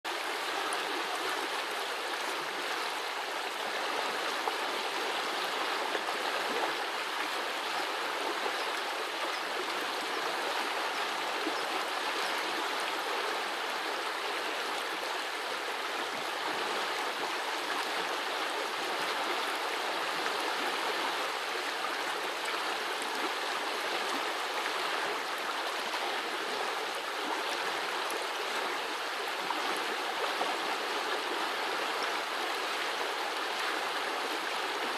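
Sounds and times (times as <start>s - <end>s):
brook babbling: 0.0s - 34.9s.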